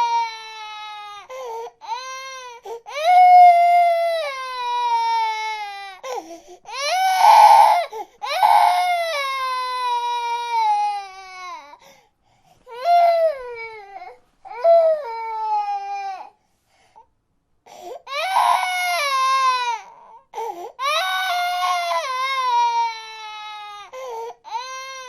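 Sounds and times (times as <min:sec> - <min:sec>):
baby crying: 0:00.0 - 0:11.8, 0:12.7 - 0:16.4, 0:17.9 - 0:25.0.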